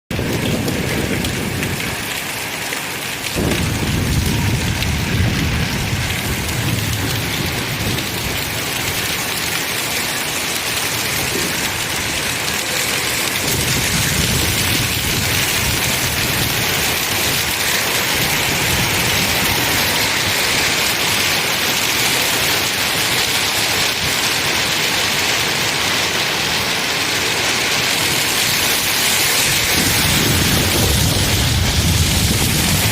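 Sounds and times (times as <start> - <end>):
heavy rain pouring: 0.1 - 32.9
thunder rumbling: 0.1 - 32.9.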